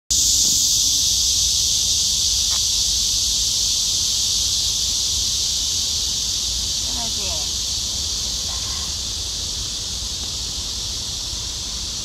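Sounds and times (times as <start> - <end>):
insects shrilling: 0.1 - 12.0.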